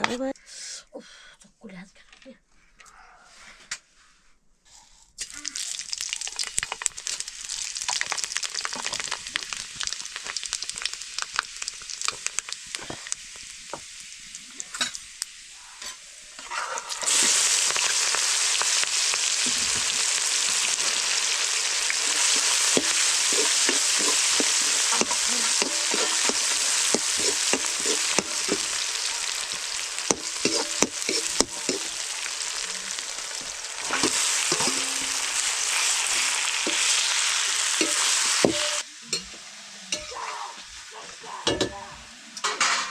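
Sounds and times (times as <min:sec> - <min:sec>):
food sizzling in oil: 0:05.2 - 0:42.9.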